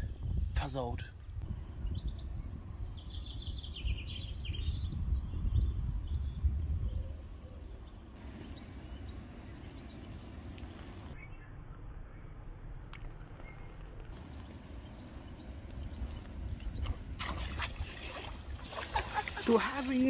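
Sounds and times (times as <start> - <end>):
small birds chirping: 0.0 - 12.4, 13.0 - 20.0.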